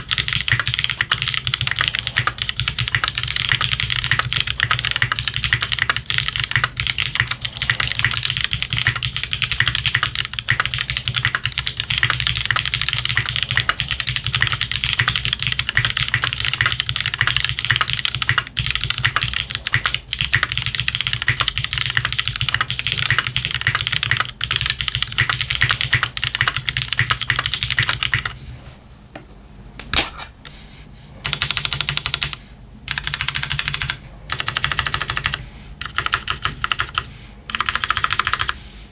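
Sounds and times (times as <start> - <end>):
fast mechanical keyboard typing: 0.0 - 28.4, 31.2 - 38.6.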